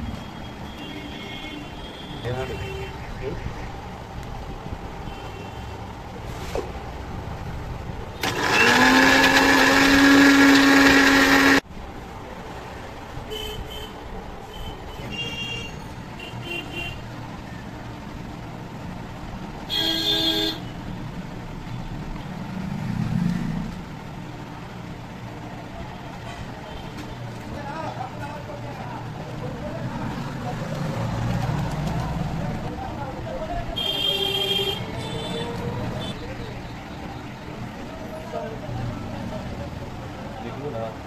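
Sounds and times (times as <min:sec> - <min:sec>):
road traffic: 0:00.0 - 0:41.0.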